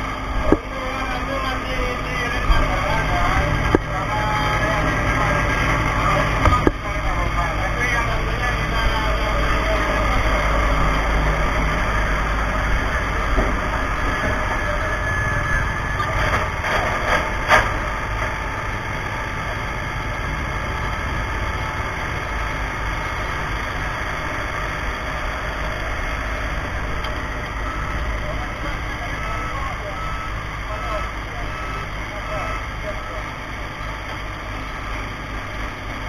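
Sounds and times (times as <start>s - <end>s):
fire truck engine rumbling: 0.0s - 36.0s.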